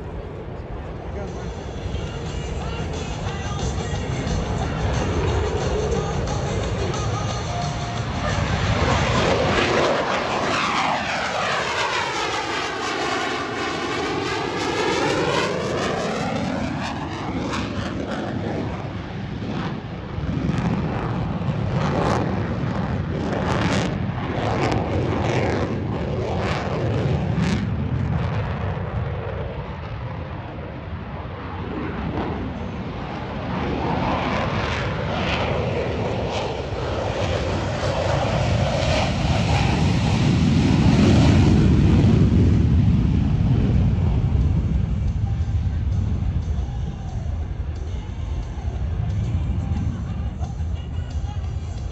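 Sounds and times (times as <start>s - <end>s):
jets flying past: 0.0s - 51.7s
jet rumble with crackling: 0.0s - 51.9s.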